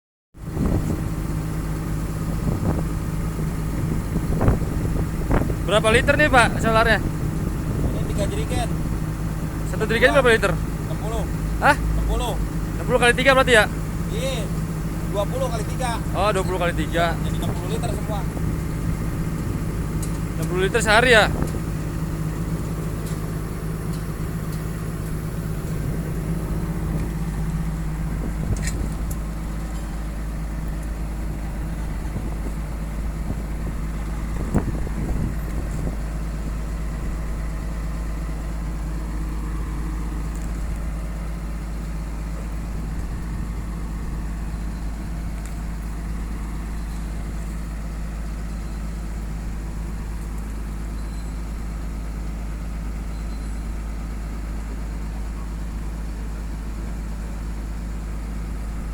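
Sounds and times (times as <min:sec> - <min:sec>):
diesel engine idling: 0:00.4 - 0:58.9.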